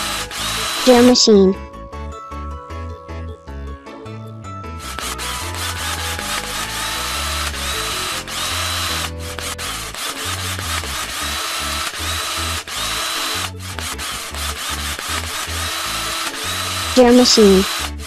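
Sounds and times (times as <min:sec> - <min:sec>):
toy drill whirring: 0:00.0 - 0:01.3, 0:04.8 - 0:18.0.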